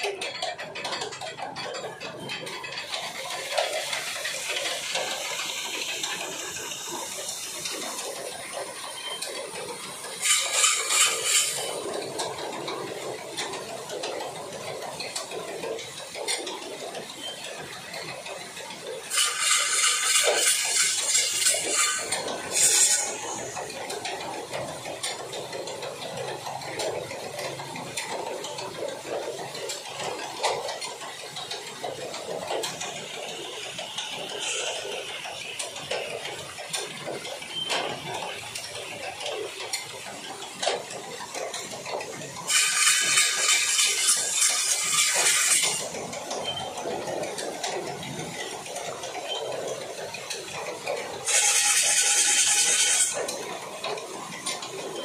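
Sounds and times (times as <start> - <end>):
wooden wheel rattling and clinking: 0.0 - 55.0.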